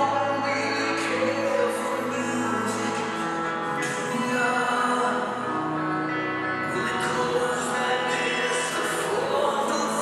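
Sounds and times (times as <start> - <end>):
waltz music over loudspeakers: 0.0 - 10.0.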